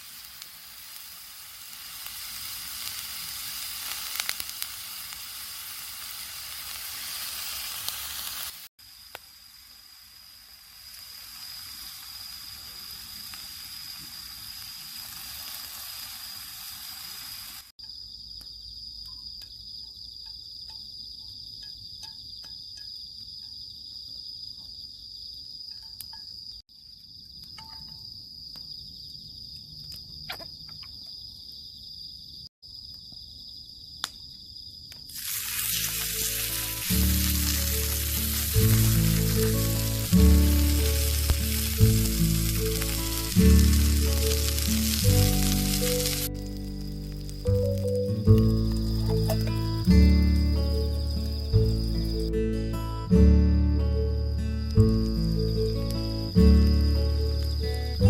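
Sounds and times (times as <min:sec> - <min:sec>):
steady sizzling hiss: 0:00.0 - 0:23.8, 0:31.2 - 0:58.0
insect chirring: 0:00.0 - 0:58.0.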